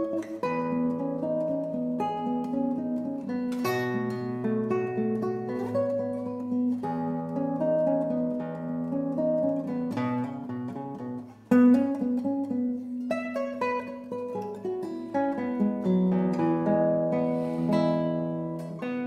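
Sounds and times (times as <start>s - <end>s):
classical guitar fingerpicked: 0.0s - 19.0s.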